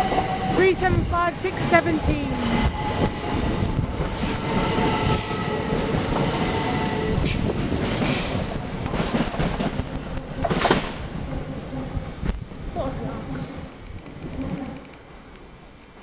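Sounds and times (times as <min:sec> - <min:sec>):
train wheel rumble: 0:00.0 - 0:16.0.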